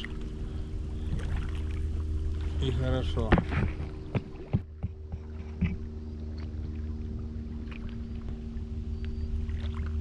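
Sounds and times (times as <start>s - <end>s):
boat motor running: 0.0s - 10.0s.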